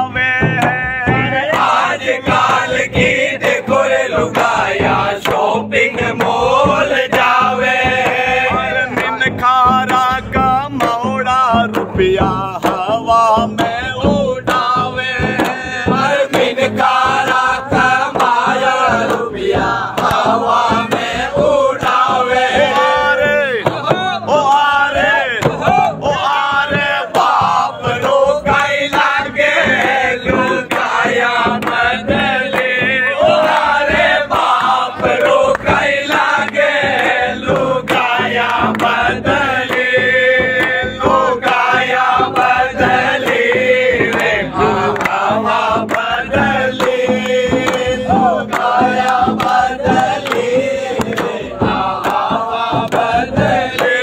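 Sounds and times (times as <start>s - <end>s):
frame drums beating: 0.0s - 54.0s
men singing in chorus: 0.0s - 54.0s.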